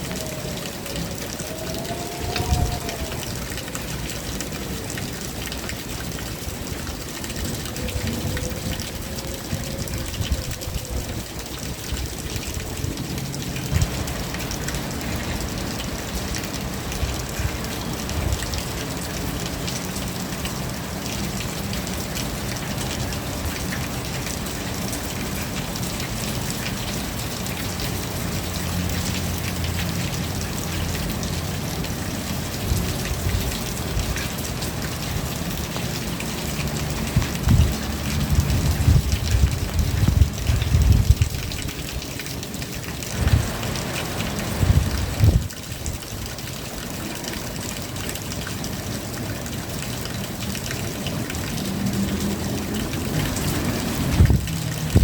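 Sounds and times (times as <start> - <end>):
rain pattering on surfaces: 0.0 - 55.0.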